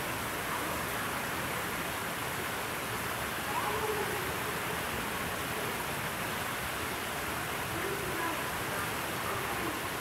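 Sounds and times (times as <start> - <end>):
rushing outdoor ambient noise: 0.0 - 10.0.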